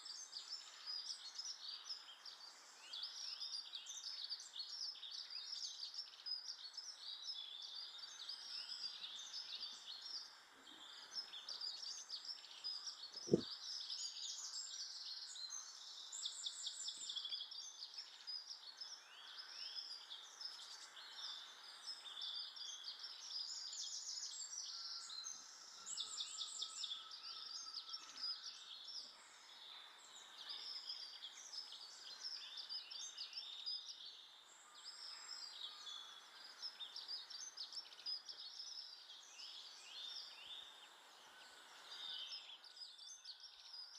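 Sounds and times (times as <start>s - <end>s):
garden birds chirping: 0.0s - 43.9s.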